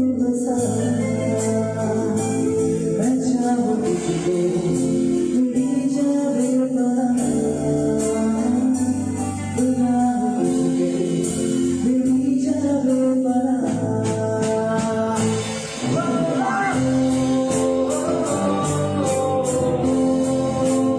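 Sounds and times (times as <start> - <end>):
guitar: 0.0 - 20.9
person singing: 0.0 - 20.9
light steady percussion: 0.3 - 20.9.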